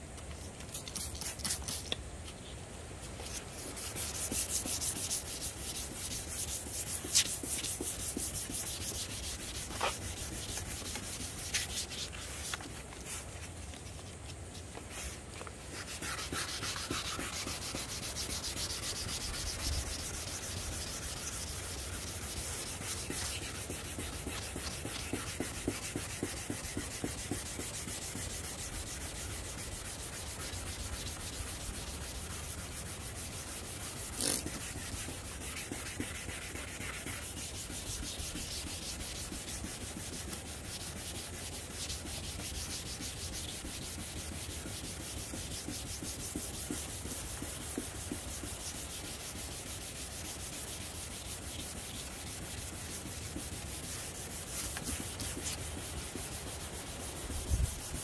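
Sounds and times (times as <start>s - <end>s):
sandpaper scrubbing plastic lens: 0.3s - 2.0s, 3.1s - 13.9s, 14.6s - 58.0s.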